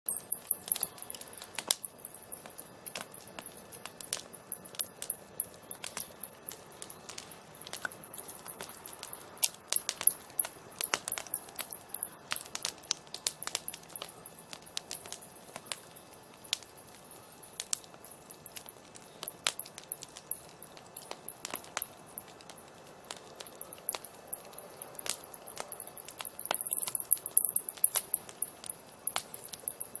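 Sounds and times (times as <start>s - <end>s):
campfire crackling and popping: 0.1s - 30.0s.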